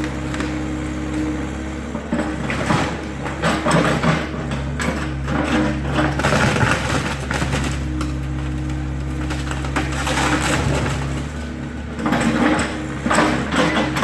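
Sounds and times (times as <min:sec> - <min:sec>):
diesel excavator engine running: 0:00.0 - 0:14.0
wood crushing and splintering: 0:00.0 - 0:14.0.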